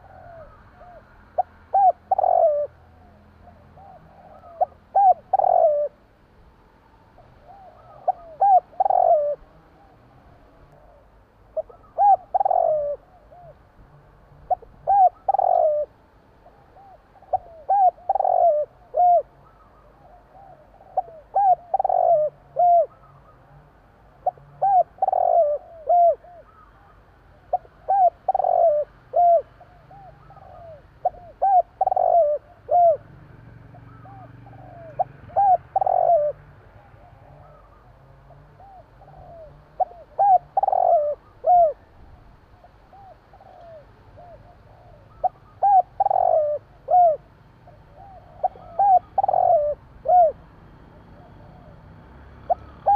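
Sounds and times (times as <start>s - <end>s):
dove cooing: 0.0s - 6.1s, 7.1s - 13.7s, 14.3s - 52.9s.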